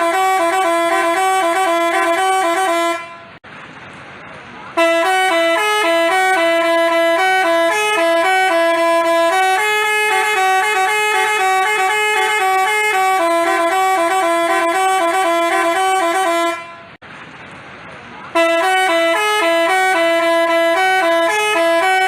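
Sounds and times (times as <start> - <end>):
multi-tone horn playing a tune: 0.0 - 3.4, 4.8 - 17.0, 18.4 - 22.0.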